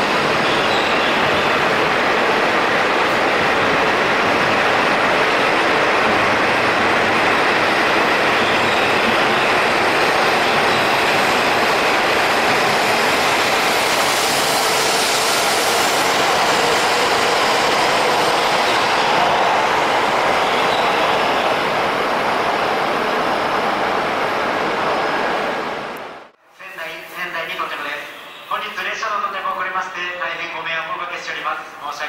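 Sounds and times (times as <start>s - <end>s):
train running noise: 0.0s - 26.3s.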